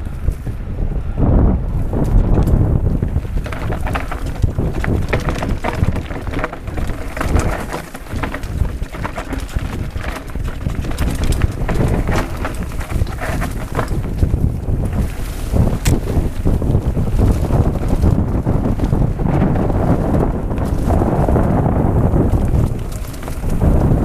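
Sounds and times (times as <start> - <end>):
wind on microphone: 0.0 - 24.0
mountain bike clattering over rocks: 2.0 - 24.0.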